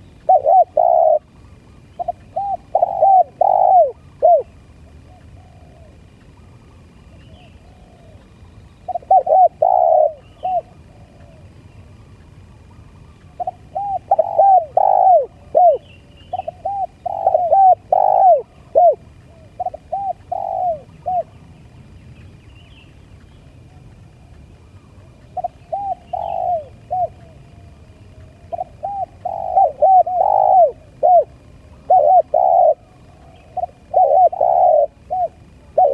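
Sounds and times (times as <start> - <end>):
dove cooing: 0.0 - 8.3, 8.9 - 21.4, 23.5 - 35.9.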